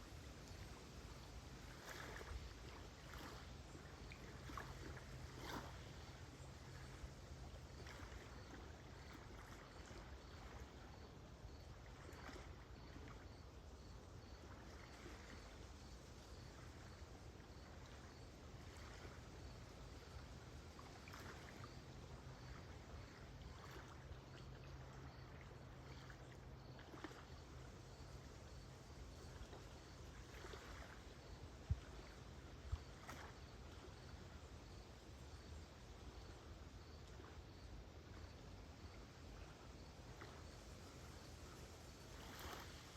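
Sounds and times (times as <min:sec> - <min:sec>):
lake water lapping at shore: 0:00.0 - 0:42.9
cricket chirping: 0:00.4 - 0:42.9.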